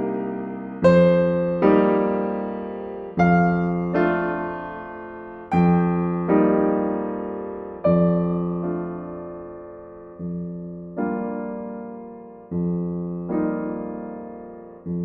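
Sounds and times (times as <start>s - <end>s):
gentle solo piano chords: 0.0s - 15.0s.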